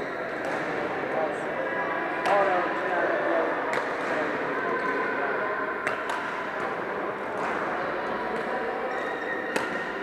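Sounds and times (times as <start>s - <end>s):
sports hall background noise: 0.0s - 10.0s.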